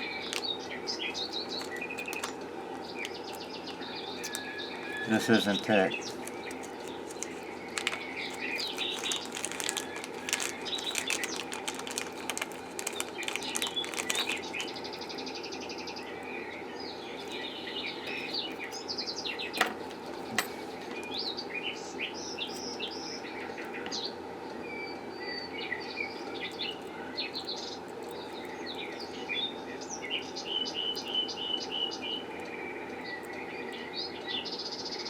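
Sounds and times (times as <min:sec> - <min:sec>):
small birds chirping: 0:00.0 - 0:35.0
steady low hum: 0:00.0 - 0:35.0.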